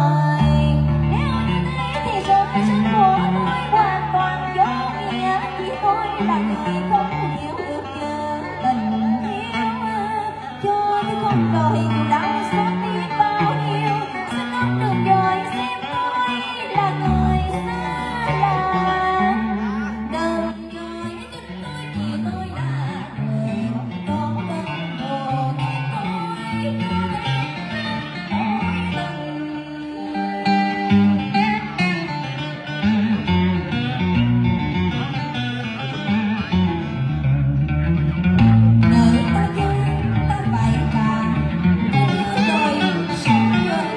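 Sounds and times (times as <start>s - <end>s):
woman singing into microphone: 0.0s - 32.5s, 38.4s - 43.9s
amplified instrumental accompaniment: 0.0s - 43.9s
plucked guitar melody: 0.0s - 43.9s.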